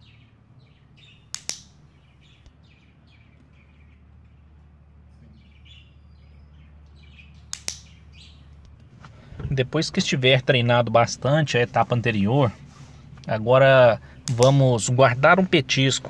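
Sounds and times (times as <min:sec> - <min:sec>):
birds chirping: 0:00.0 - 0:16.0
faint low hum: 0:00.0 - 0:16.0.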